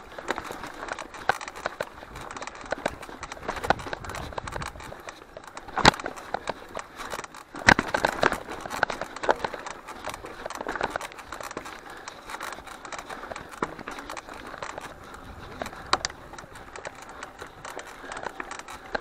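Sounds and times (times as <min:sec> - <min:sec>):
bike rattling over rough trail: 0:00.0 - 0:19.0.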